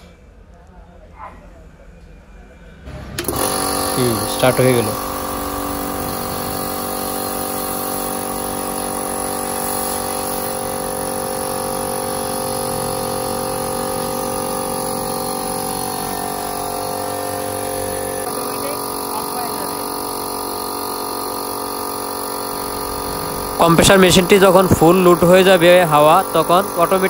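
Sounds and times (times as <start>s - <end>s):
air compressor running: 2.8s - 27.0s.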